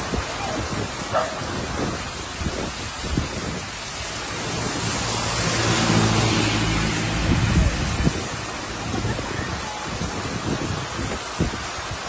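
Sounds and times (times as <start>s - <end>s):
heavy rain falling: 0.0s - 12.0s
vehicle passing on wet road: 0.1s - 12.0s.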